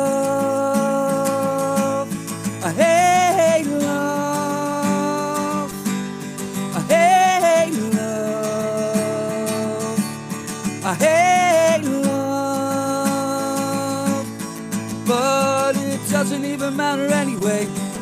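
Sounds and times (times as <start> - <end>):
man singing: 0.0 - 18.0
strummed acoustic guitar: 0.0 - 18.0.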